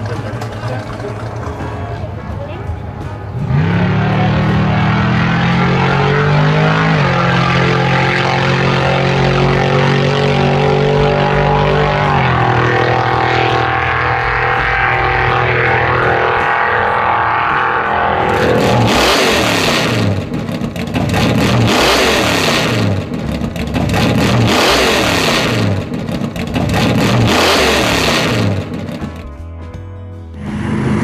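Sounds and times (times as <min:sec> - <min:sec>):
car engine revving: 0:00.0 - 0:29.3, 0:30.3 - 0:31.0.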